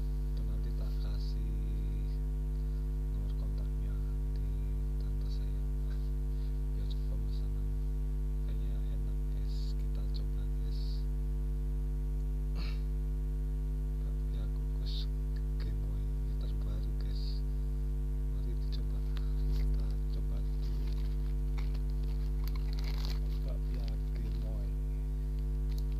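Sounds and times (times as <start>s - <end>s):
electrical mains hum: 0.0s - 25.9s.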